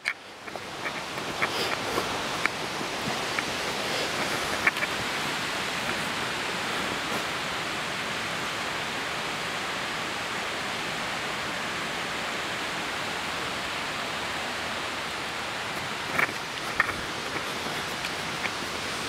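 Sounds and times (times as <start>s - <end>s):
fast-flowing river water rushing: 0.0s - 19.0s.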